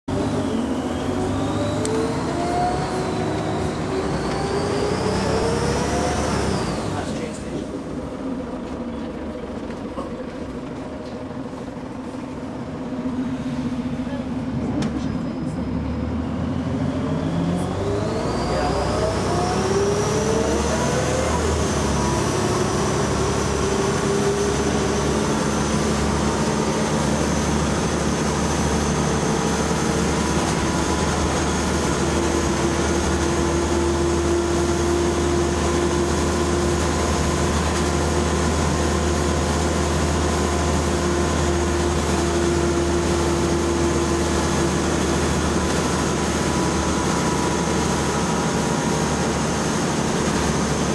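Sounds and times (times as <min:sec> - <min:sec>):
bus engine and gearbox whine: 0:00.1 - 0:50.9.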